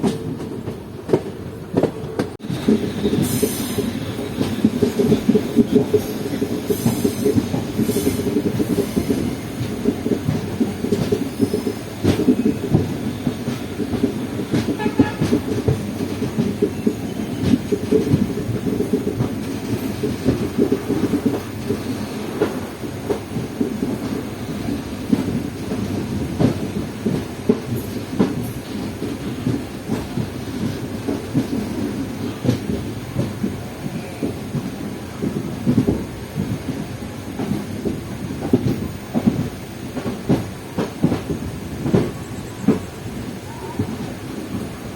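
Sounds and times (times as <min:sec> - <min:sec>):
train knocks and rattles: 0:00.0 - 0:44.9
train rumbling on track: 0:00.0 - 0:44.9.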